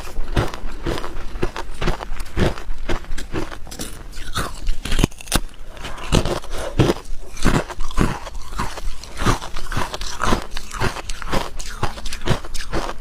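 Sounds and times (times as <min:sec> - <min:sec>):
ice crunching between teeth: 0:00.0 - 0:13.0.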